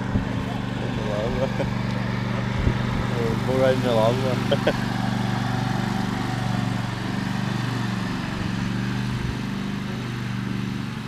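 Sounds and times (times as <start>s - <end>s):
riding lawn mower engine: 0.0s - 11.0s.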